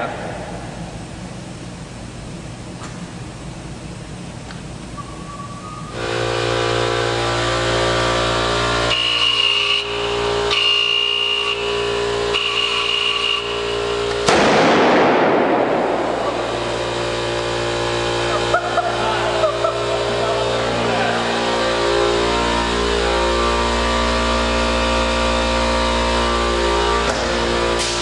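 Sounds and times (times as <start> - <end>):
tesla coil electrical buzz: 0.0 - 28.0
high thin whine: 4.9 - 28.0.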